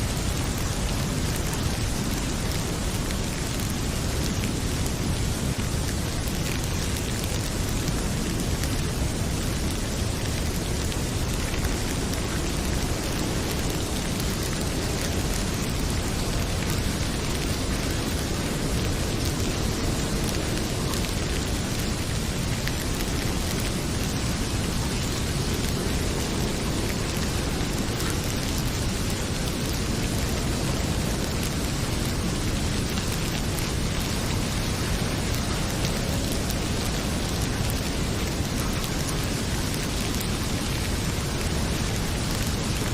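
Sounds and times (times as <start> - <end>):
fireplace fire crackling: 0.0 - 42.9
heavy rain hissing: 0.0 - 42.9.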